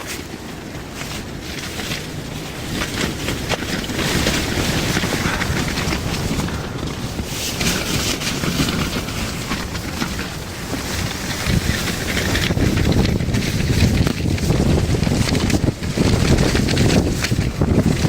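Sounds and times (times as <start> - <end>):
wind gusting over microphone: 0.0 - 18.0.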